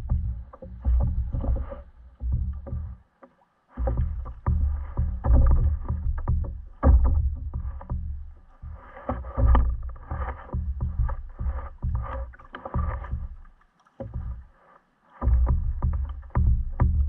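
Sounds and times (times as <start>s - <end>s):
low rumbling bumps: 0.0s - 3.0s, 3.8s - 14.5s, 15.2s - 17.0s
water lapping against hull: 0.0s - 17.0s.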